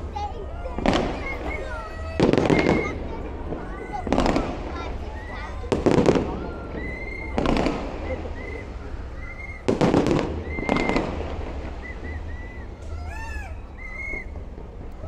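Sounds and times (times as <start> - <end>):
fireworks bangs: 0.0 - 15.0
firework whistles: 0.8 - 3.1, 4.0 - 14.6.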